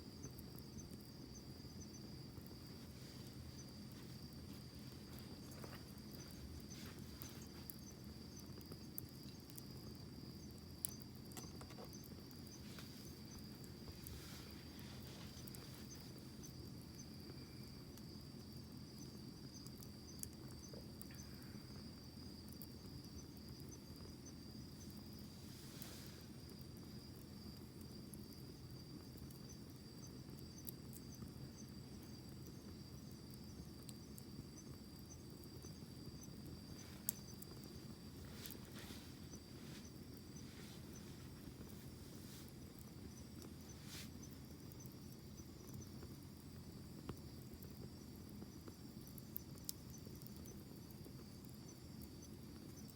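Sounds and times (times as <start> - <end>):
campfire crackling: 0.0 - 52.9
high insect trill: 0.0 - 52.9.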